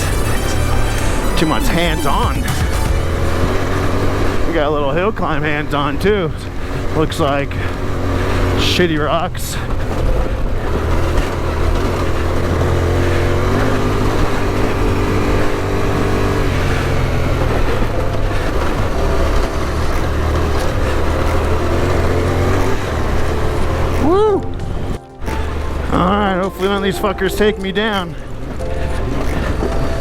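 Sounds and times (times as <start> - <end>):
motorcycle engine under load: 0.0 - 30.0
steady rushing noise: 0.0 - 30.0.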